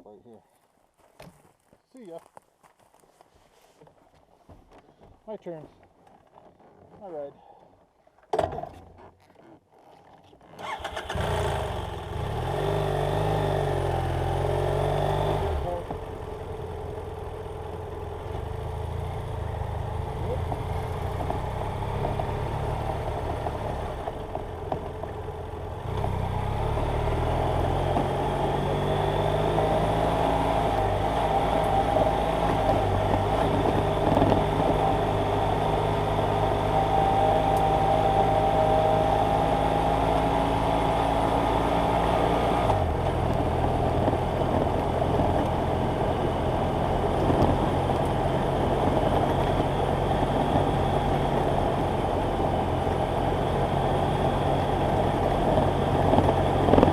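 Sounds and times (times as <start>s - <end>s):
motorcycle engine running: 10.6s - 56.9s.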